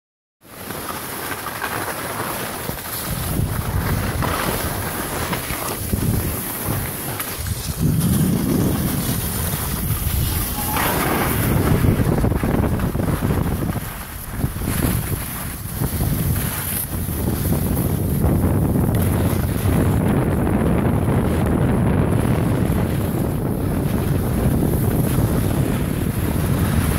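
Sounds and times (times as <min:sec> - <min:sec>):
skis sliding on packed snow: 0:00.4 - 0:26.9
wind buffeting microphone: 0:02.9 - 0:26.9.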